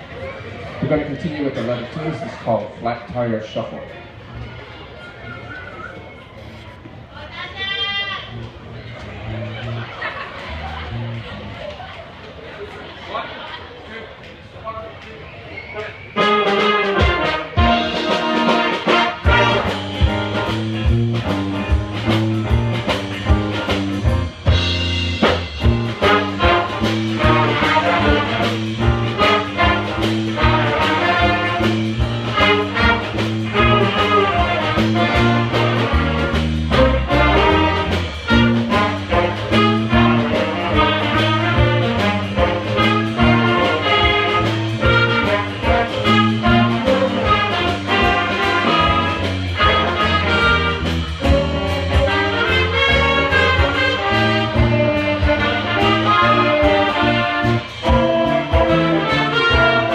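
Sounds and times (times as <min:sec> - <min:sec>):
big band playing swing: 0:00.0 - 0:13.6, 0:15.0 - 0:59.9.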